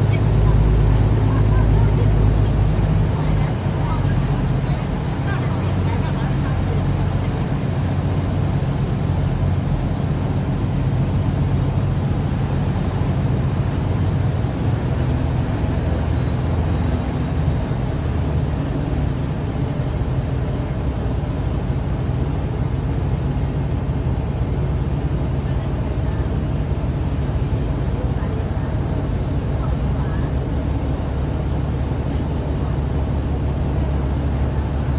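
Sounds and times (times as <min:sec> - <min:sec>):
ferry engine drone: 0:00.0 - 0:34.9.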